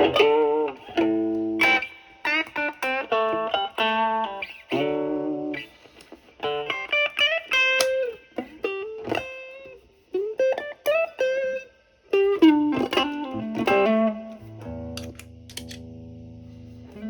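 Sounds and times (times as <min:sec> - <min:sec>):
overdriven electric guitar lead: 0:00.0 - 0:17.0.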